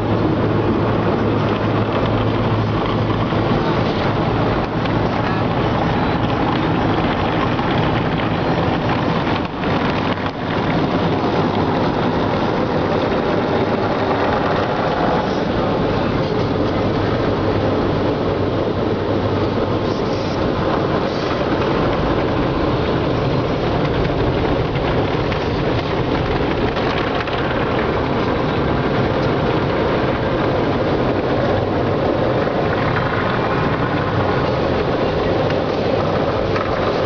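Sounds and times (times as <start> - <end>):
car wash equipment rushing: 0.0 - 37.0
low rumble: 0.0 - 37.0.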